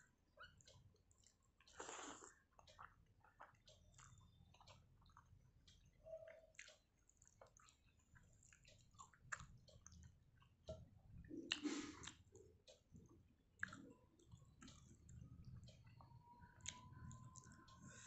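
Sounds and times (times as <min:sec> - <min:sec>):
chewing: 0:00.4 - 0:12.8, 0:13.6 - 0:18.0.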